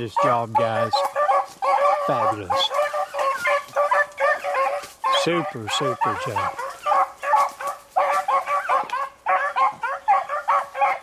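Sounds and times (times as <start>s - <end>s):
hounds yelping barks: 0.0s - 11.0s.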